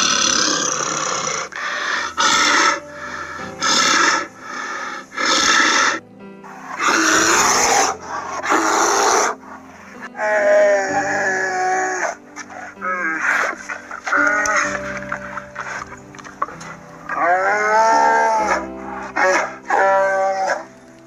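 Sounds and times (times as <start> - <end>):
bear calling: 0.0 - 21.0.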